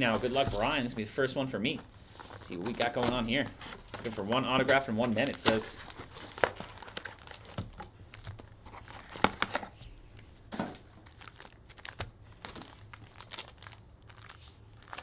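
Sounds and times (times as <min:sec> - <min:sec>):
foil packs crinkling: 0:00.0 - 0:10.0, 0:10.8 - 0:15.0.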